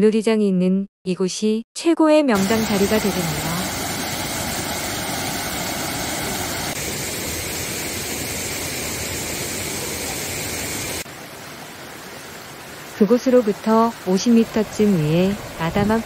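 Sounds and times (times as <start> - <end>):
stream rushing over rocks: 2.4 - 16.0.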